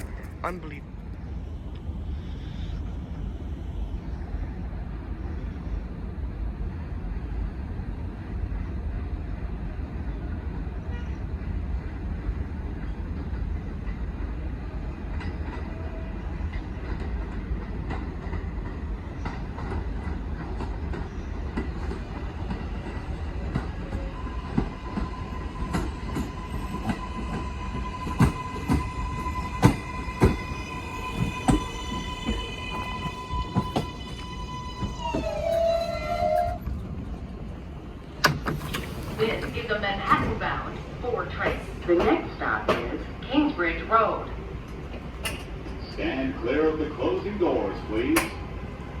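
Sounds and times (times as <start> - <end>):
subway train rumbling on rails: 0.0 - 49.0.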